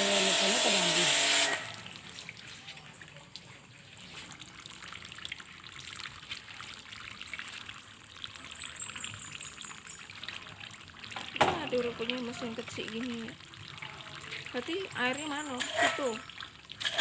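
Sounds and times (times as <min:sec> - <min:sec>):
water trickling: 0:00.0 - 0:17.0
small ticks and splashes: 0:01.9 - 0:17.0.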